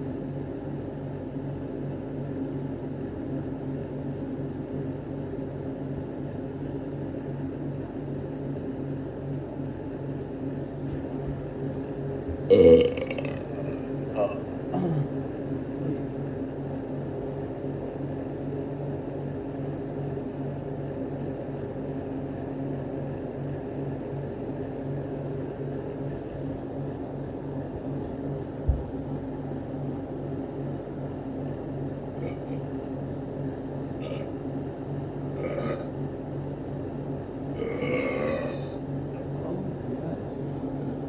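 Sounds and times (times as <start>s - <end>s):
low mechanical hum: 0.0s - 41.0s.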